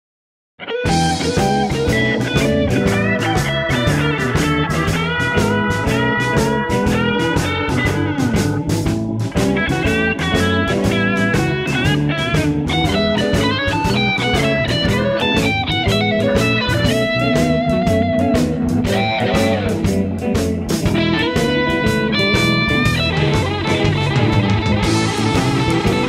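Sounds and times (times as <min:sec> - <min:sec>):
guitar music with drum beat: 0:00.6 - 0:26.0.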